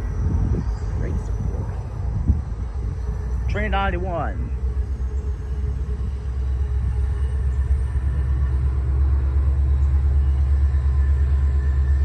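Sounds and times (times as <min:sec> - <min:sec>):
diesel locomotive rumble: 0:00.0 - 0:12.0
faint engine tones: 0:00.0 - 0:12.0.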